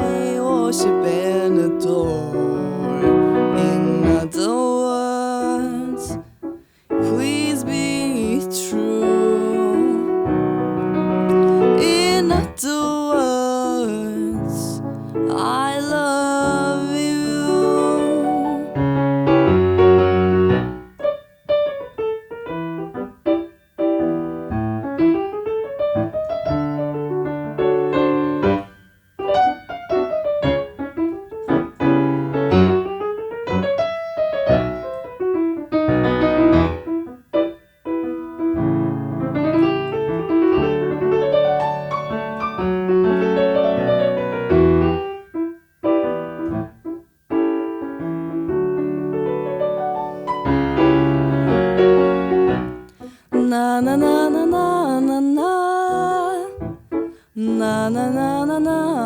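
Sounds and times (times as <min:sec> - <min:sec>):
piano playing: 0:00.0 - 0:59.0.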